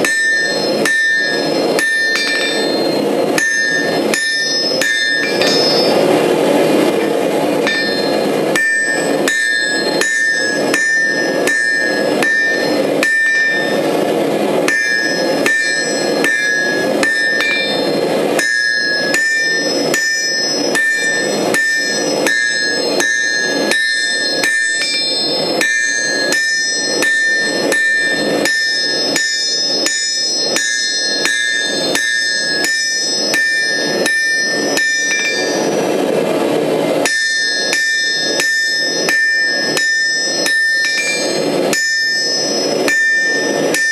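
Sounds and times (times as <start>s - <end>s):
anvil ringing: 0.0s - 36.1s, 37.0s - 43.9s
hammer striking steel on anvil: 0.0s - 36.1s, 37.0s - 43.9s.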